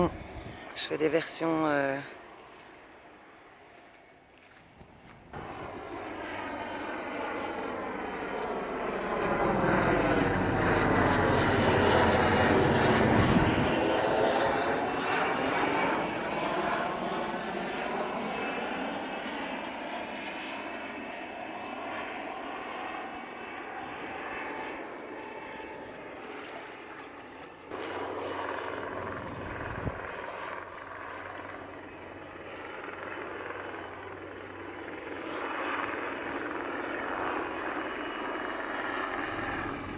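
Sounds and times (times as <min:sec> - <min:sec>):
helicopter flying past: 0:00.0 - 0:39.9.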